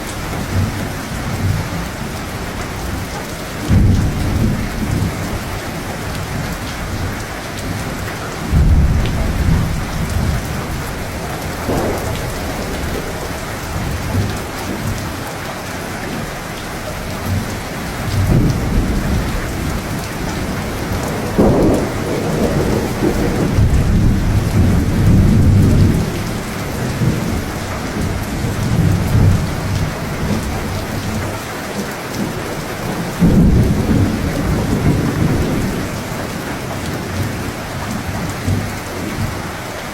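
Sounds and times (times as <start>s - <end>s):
steady rain: 0.0s - 39.9s
rolling thunder: 0.2s - 15.2s, 16.9s - 31.3s, 32.2s - 39.4s.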